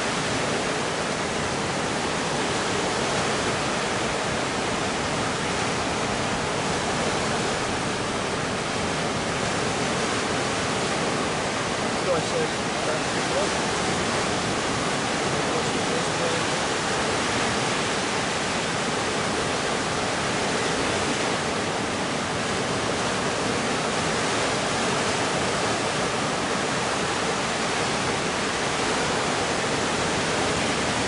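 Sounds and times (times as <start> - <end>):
ocean surf rushing: 0.0 - 31.0.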